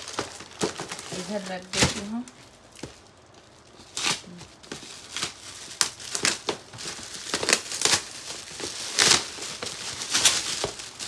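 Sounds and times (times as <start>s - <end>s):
wrapping paper tearing and crumpling: 0.0s - 11.0s.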